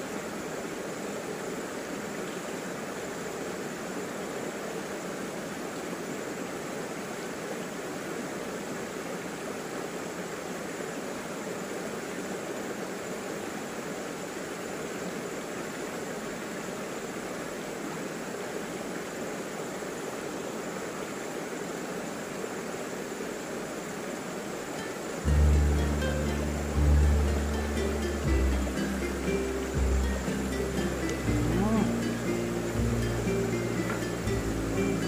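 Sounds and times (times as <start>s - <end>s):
river flowing over rocks: 0.0s - 35.0s.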